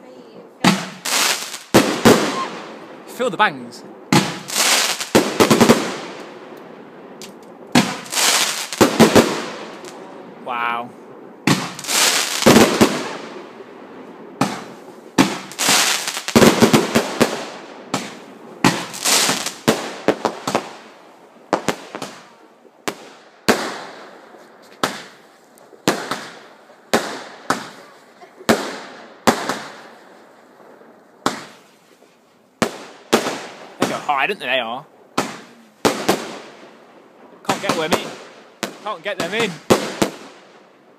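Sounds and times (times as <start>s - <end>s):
fireworks bangs: 0.5s - 32.0s, 32.6s - 40.9s.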